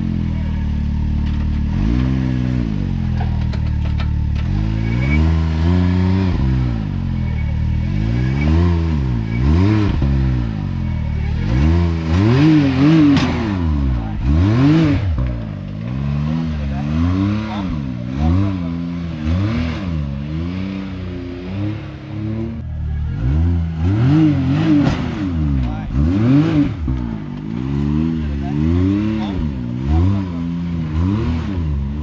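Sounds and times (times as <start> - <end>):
utv engine revving: 0.0 - 32.0.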